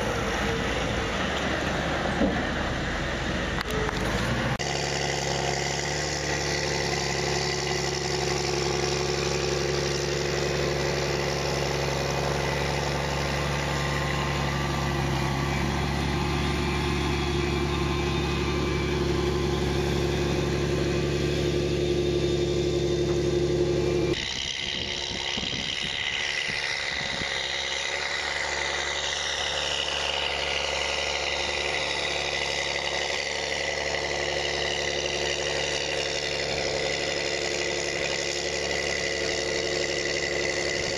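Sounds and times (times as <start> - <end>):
second tractor engine: 0.0 - 40.9
tractor diesel engine running: 0.0 - 40.9.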